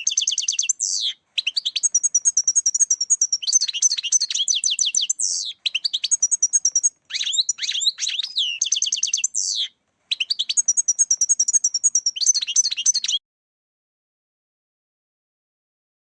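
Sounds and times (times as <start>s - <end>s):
finch singing twittering song: 0.0s - 13.2s.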